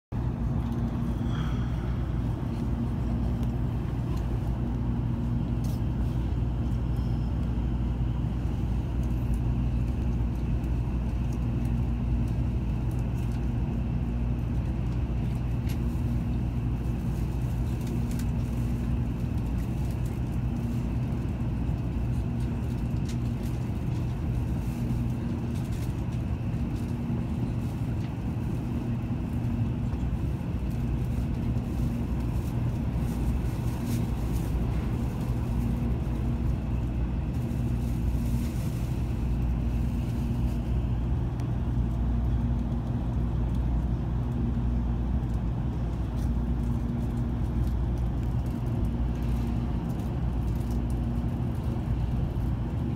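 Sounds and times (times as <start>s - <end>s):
train cabin rumble: 0.1s - 52.9s.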